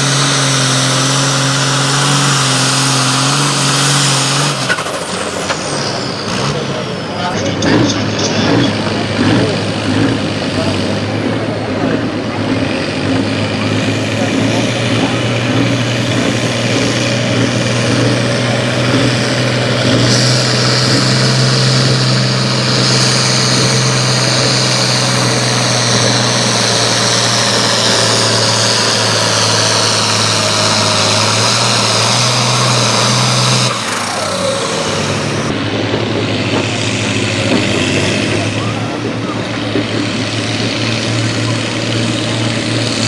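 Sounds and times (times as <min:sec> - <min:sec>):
pulling vehicle engine under load: 0:00.0 - 0:43.0.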